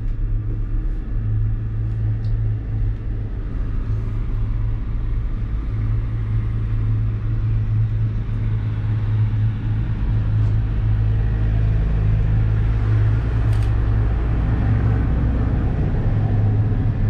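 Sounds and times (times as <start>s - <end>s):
gondola cabin rumble and hum: 0.0s - 17.0s.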